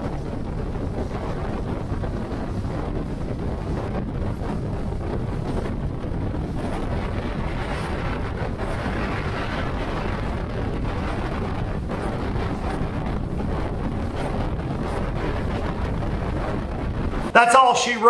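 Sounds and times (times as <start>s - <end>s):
water rushing along boat hull: 0.0s - 17.4s
wind buffeting microphone: 0.0s - 18.0s.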